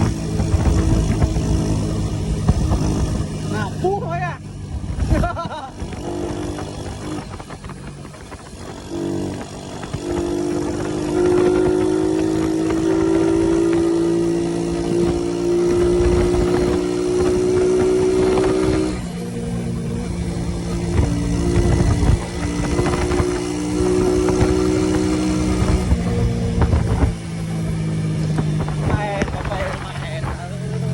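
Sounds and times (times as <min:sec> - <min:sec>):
motorbike engine running: 0:00.0 - 0:30.9.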